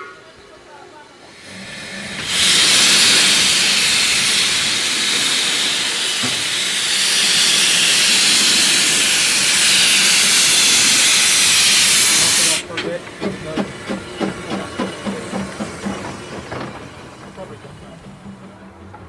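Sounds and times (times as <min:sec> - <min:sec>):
steam hissing loudly: 0:01.2 - 0:18.6.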